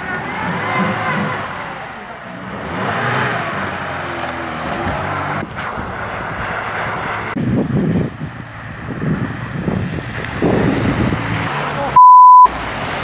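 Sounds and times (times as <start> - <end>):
car engine running under load: 0.0 - 13.0
vehicle driving through mud: 0.0 - 13.0.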